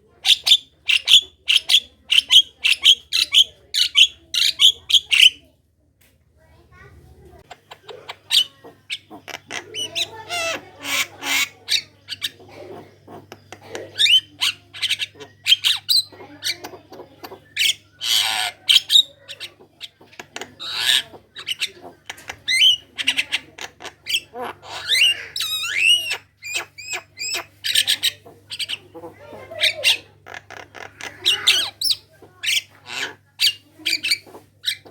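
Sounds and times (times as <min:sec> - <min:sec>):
bird chattering and singing: 0:00.0 - 0:05.5, 0:07.3 - 0:34.9.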